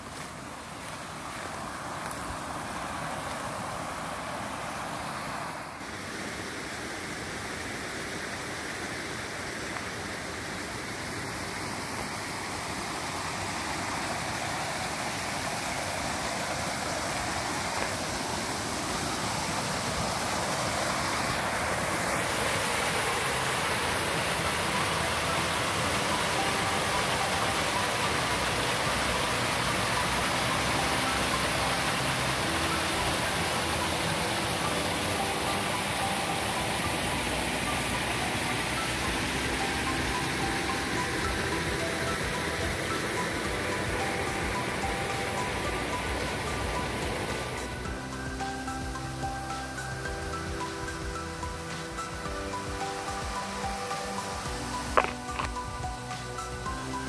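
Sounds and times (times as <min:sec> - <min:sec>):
waterfall rushing water: 0:00.0 - 0:57.0.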